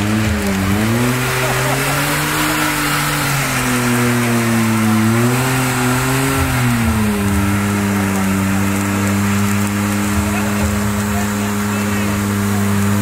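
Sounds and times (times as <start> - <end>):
car engine revving: 0.0 - 13.0
tyres spinning: 0.0 - 13.0.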